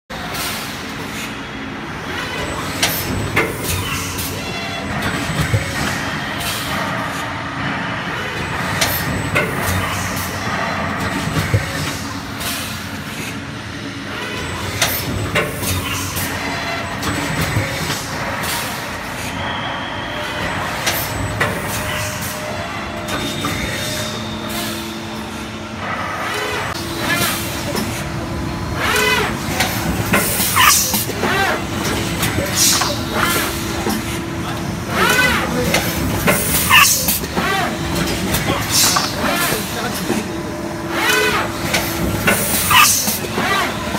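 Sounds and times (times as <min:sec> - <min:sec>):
machine running noise: 0:00.1 - 0:43.9.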